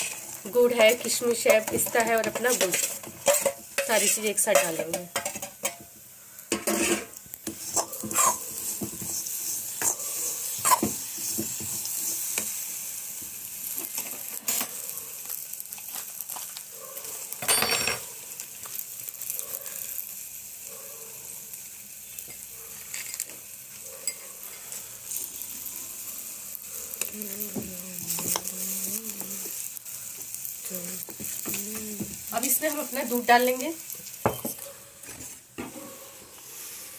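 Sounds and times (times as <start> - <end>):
spoon stirring and scraping pan: 0.0 - 17.3, 22.2 - 25.5, 27.0 - 36.9
dry fruits sizzling in ghee: 0.0 - 36.9.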